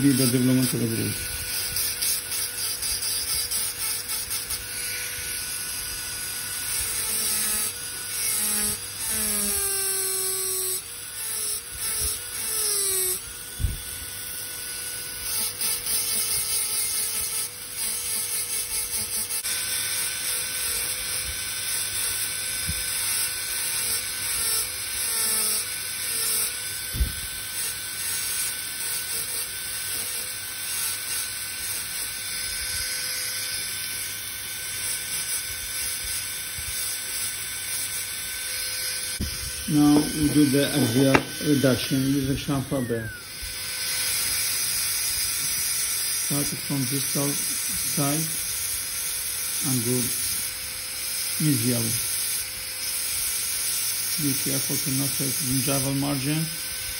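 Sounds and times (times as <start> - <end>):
dental drill whining: 0.0 - 56.9.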